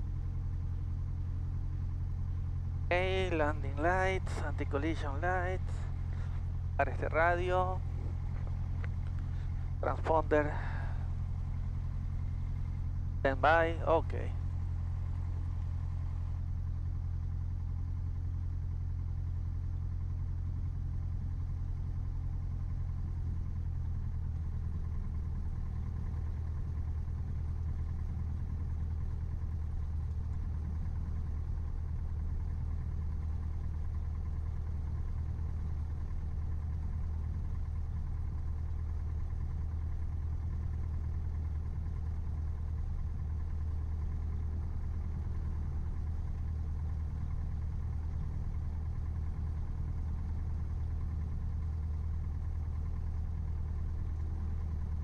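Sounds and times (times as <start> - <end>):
aircraft engine low drone: 0.0 - 55.0.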